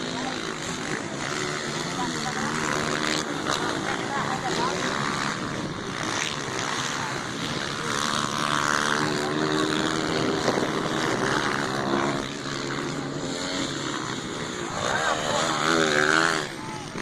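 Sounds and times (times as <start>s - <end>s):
motorcycle engines droning: 0.0s - 17.0s.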